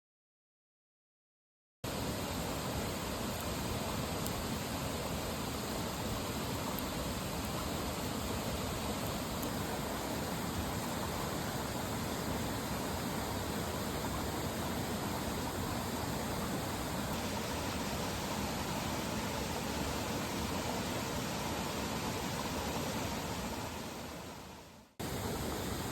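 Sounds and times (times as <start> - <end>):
mountain stream rushing: 1.9 - 25.9.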